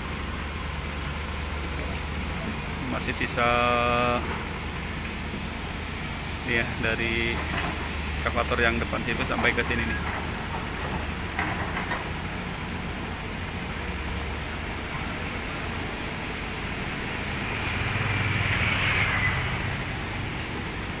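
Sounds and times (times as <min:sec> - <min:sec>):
excavator diesel engines humming: 0:00.0 - 0:21.0.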